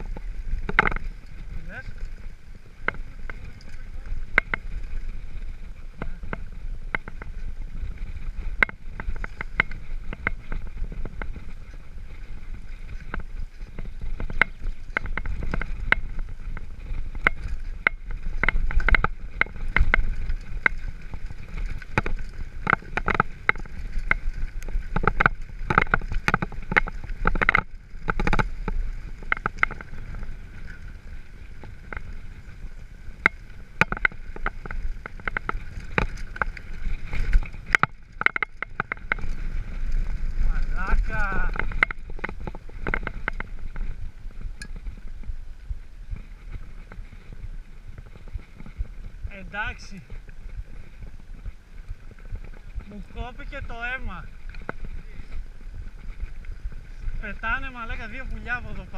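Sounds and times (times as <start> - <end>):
bike clacking over stones: 0.0 - 45.3, 46.2 - 58.9
wind and tyres rumbling: 0.0 - 58.9.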